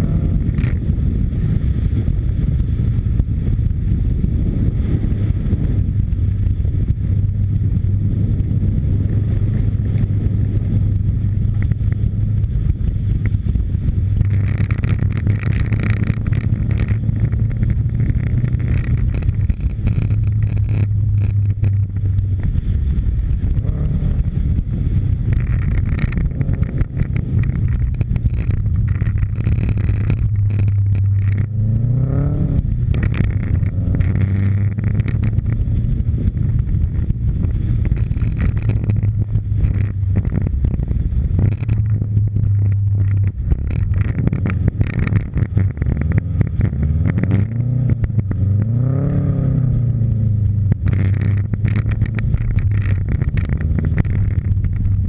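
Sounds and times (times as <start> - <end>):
rally car engine running hard: 0.0 - 55.0
wind rush on microphone: 0.0 - 55.0.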